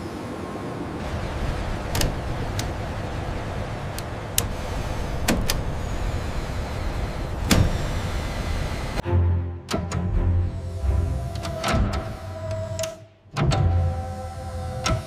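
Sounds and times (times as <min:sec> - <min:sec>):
machinery hum: 0:00.0 - 0:09.0, 0:10.0 - 0:15.0.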